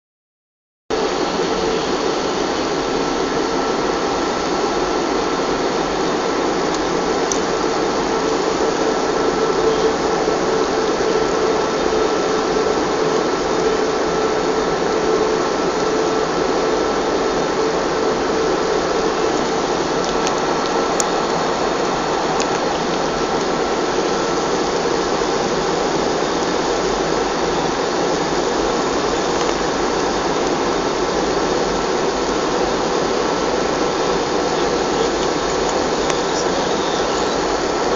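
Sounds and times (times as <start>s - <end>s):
airliner cabin engine noise: 0.9s - 37.9s
steady hum: 0.9s - 37.9s.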